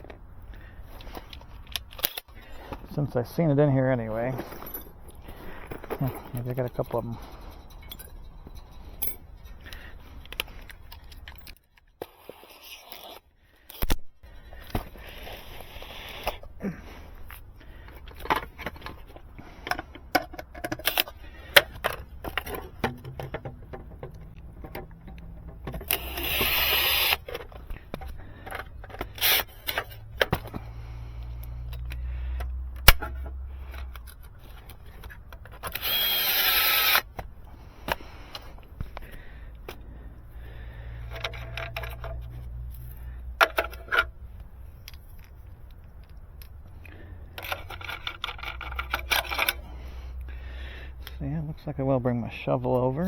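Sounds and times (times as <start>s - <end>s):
small tools clicking and rattling: 4.2s - 16.6s, 17.2s - 39.8s, 40.9s - 50.2s.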